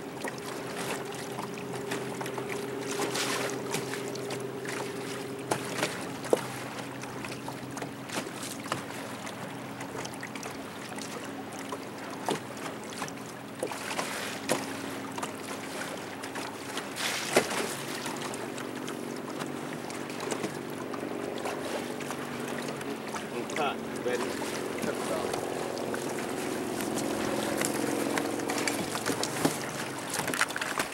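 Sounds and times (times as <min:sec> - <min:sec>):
boat motor humming: 0:00.0 - 0:30.9
water lapping against hull: 0:00.0 - 0:30.9
waves slapping the hull: 0:00.0 - 0:30.9.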